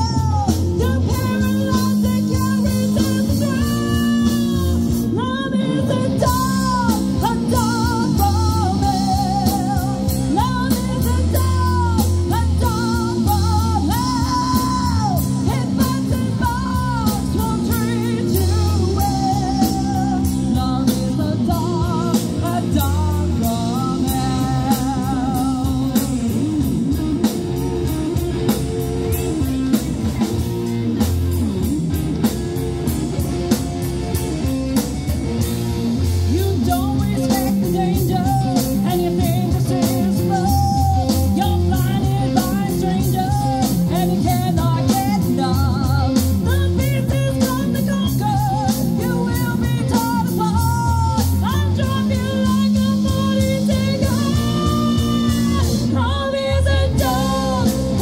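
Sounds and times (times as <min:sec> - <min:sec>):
person singing: 0:00.0 - 0:30.8, 0:36.0 - 0:58.0
drum kit beat: 0:00.0 - 0:58.0
electric guitar: 0:00.0 - 0:58.0
keyboards: 0:00.0 - 0:58.0.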